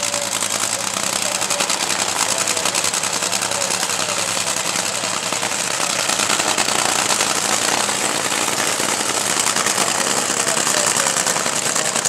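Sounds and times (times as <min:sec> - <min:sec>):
dragster engine idling crackle: 0:00.0 - 0:12.0.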